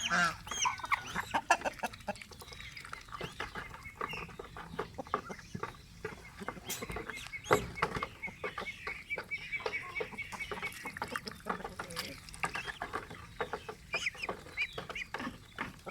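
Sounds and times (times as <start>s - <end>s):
fowl chirping: 0.0s - 15.9s.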